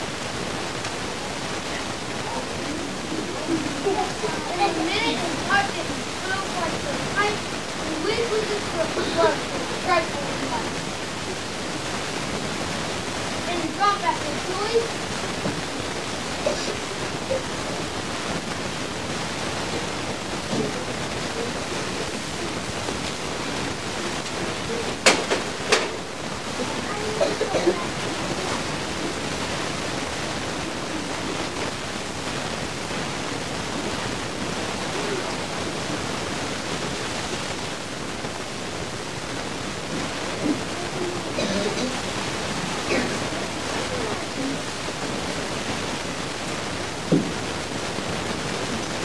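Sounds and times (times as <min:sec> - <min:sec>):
recording hiss: 0:00.0 - 0:49.0
young children murmuring: 0:00.1 - 0:18.1, 0:19.6 - 0:31.9, 0:33.6 - 0:36.9, 0:39.9 - 0:45.7.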